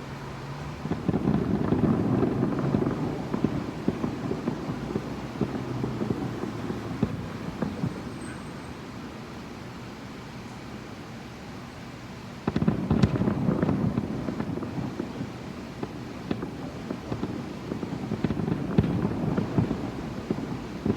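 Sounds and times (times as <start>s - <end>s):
muffled fireworks crackling: 0.0s - 20.9s.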